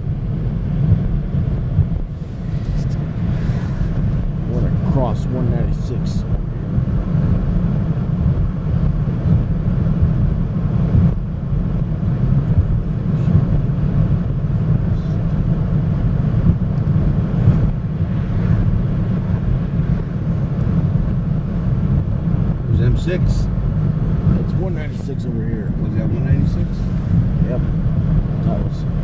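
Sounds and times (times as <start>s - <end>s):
car interior road noise: 0.0s - 29.0s.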